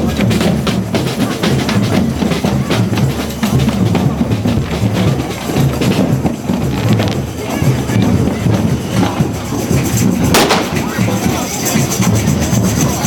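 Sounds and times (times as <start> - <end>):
drums and percussion: 0.0 - 13.0.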